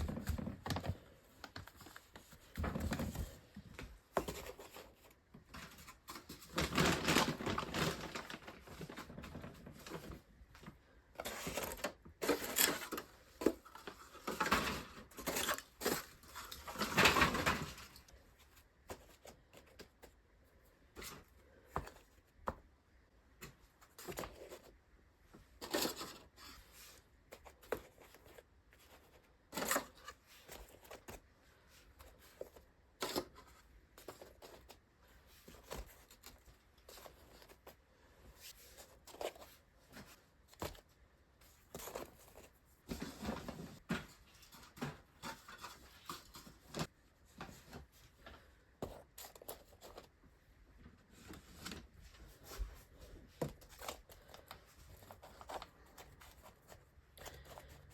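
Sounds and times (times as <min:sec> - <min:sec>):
rustling and scraping: 0:00.0 - 0:22.7, 0:23.3 - 0:57.9.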